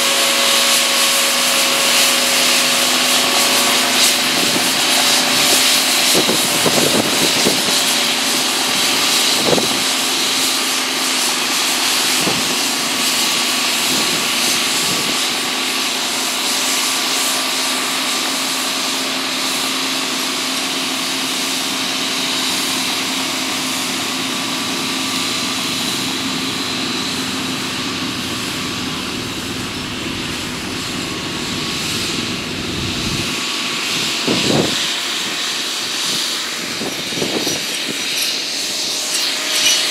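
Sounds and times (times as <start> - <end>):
circular saw whine: 0.0 - 39.9
saw blades cutting branches: 0.0 - 39.9
tractor engine running: 0.0 - 39.9.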